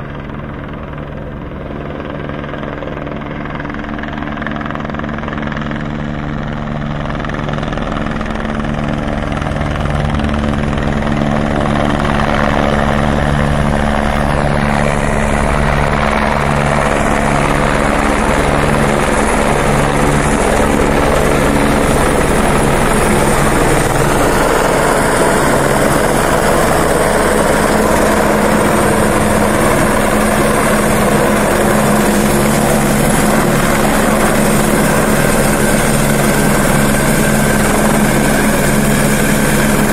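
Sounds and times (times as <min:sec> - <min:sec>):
helicopter flying close by: 0:00.0 - 0:39.9.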